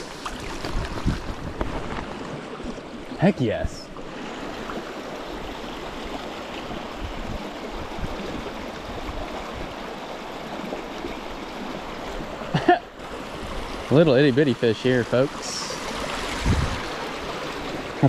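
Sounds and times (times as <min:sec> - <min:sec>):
creek running over rocks: 0:00.0 - 0:18.0.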